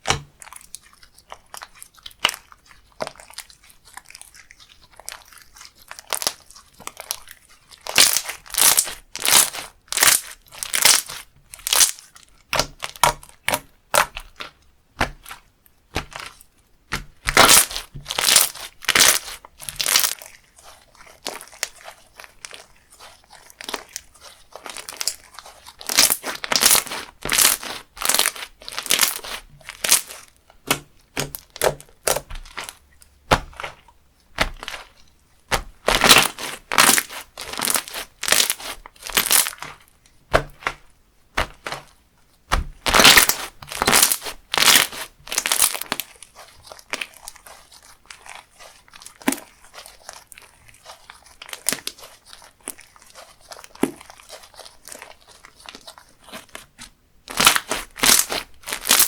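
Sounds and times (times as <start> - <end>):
slime squeezed crackling: 0.0 - 40.8, 41.4 - 59.0.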